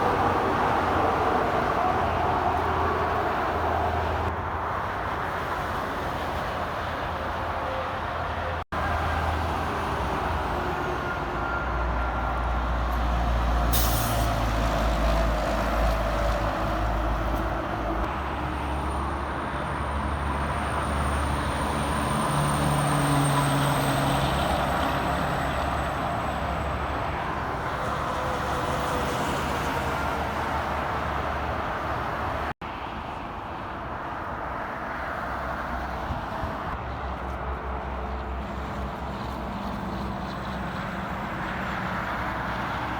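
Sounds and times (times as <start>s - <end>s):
heavy trucks passing: 0.0s - 42.9s.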